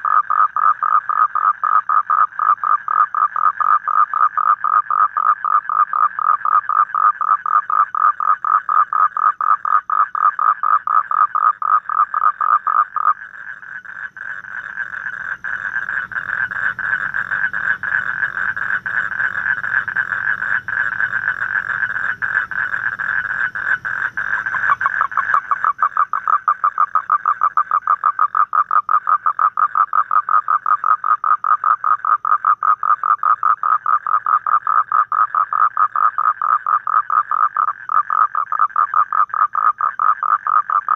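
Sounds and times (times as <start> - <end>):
toad trilling: 0.0 - 40.9.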